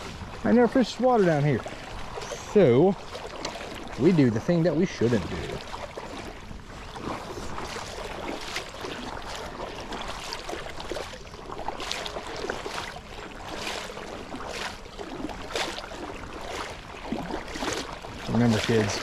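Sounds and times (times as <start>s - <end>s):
creek flowing: 0.0s - 19.0s
water sloshing around legs: 0.0s - 19.0s.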